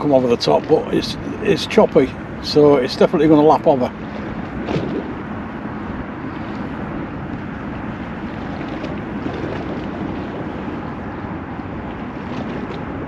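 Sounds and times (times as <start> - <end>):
water lapping at bank: 0.0 - 13.0
wind noise on microphone: 0.0 - 13.0.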